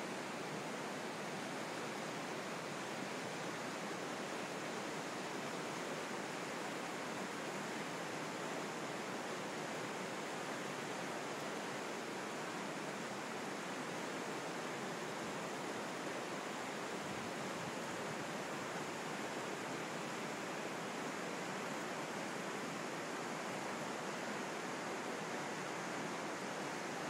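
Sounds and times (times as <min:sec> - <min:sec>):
river water rushing over boulders: 0:00.0 - 0:27.0.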